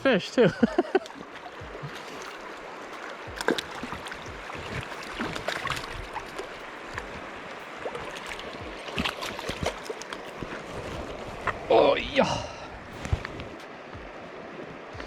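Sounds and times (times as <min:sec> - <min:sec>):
river water over rocks: 0:00.0 - 0:15.0.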